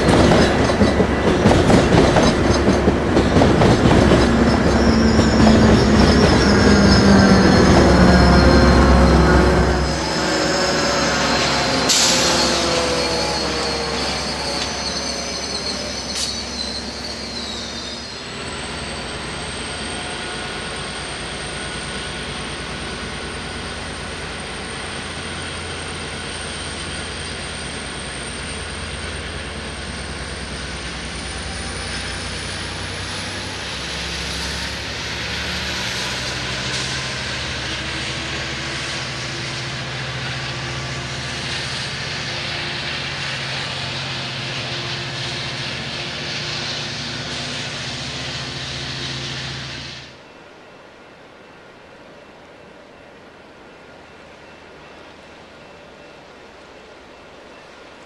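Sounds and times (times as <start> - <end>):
train wheels squealing: 0.0 - 50.8, 51.4 - 58.0
train rolling on rails: 0.0 - 58.0.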